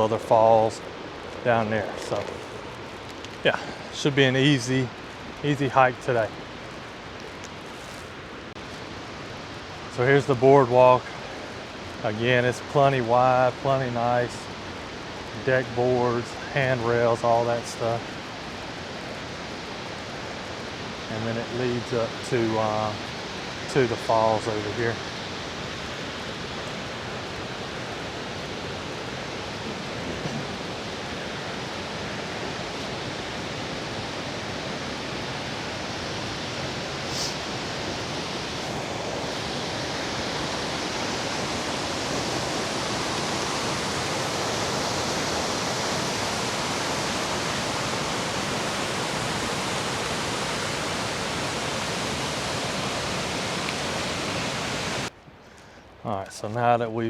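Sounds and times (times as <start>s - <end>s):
waterfall rushing: 0.0s - 55.1s.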